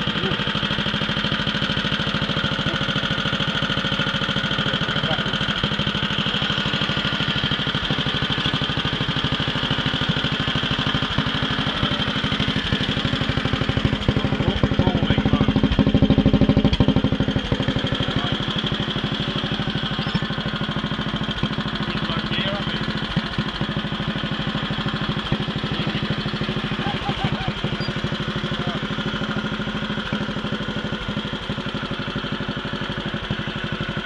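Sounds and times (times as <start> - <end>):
garden tractor engine running: 0.0 - 34.0.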